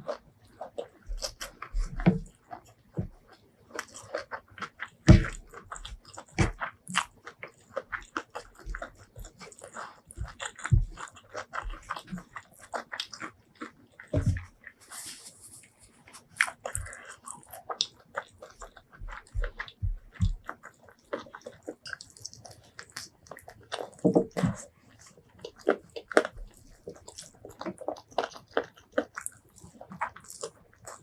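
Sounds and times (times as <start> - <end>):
wet chewing and biting: 0.0 - 31.0.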